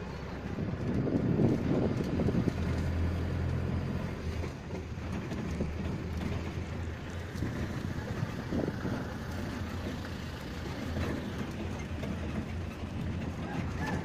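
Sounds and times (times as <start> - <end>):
truck engine and tyre noise: 0.0 - 14.0
wind buffeting microphone: 0.0 - 14.0.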